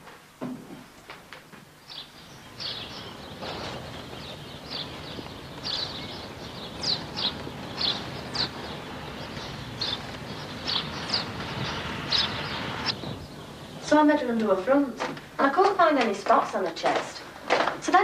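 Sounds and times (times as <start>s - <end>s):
outdoor background hiss: 0.0s - 18.0s
small birds chirping: 1.8s - 16.7s.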